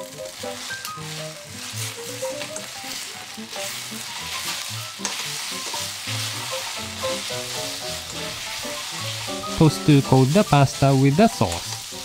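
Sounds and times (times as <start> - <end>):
food sizzling in a frying pan: 0.0 - 12.0
tongs scraping a pan: 0.4 - 12.0.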